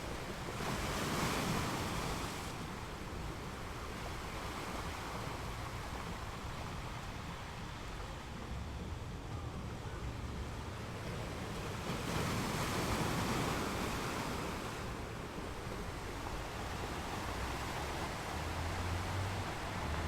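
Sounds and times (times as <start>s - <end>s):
ocean waves breaking on a beach: 0.0s - 20.0s.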